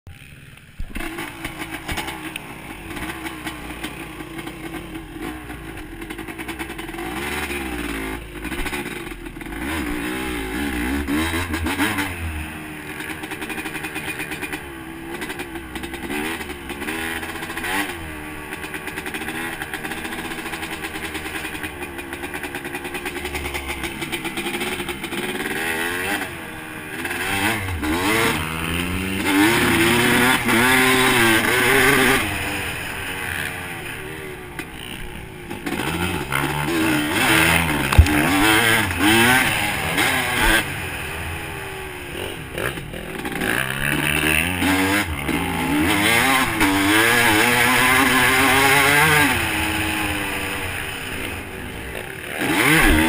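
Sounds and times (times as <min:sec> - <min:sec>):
dirt bike engine revving: 0:00.1 - 0:53.0.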